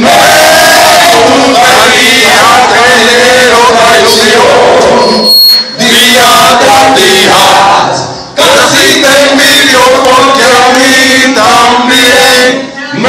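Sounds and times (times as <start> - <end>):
man singing through pa system: 0.0 - 13.0.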